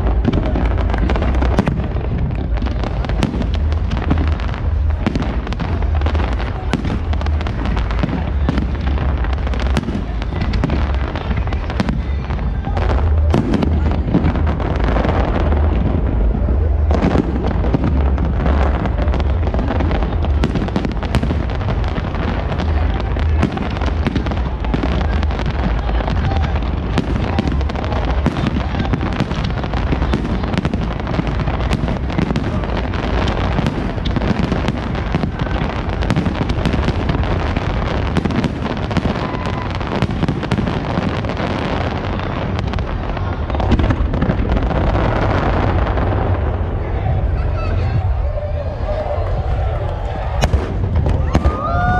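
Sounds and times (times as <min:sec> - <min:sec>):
deep booming rumble: 0:00.0 - 0:51.9
fireworks crackling and banging: 0:00.0 - 0:51.9.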